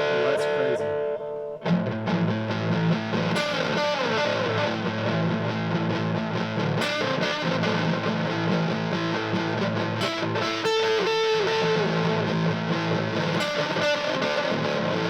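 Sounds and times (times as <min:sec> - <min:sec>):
electric guitar with overdrive and delay: 0:00.0 - 0:15.0.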